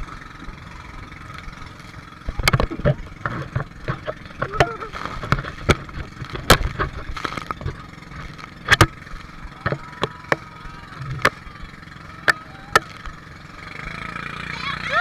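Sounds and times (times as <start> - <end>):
boat engine drone: 0.0 - 15.0
knocks and splashes on waves: 0.4 - 13.3.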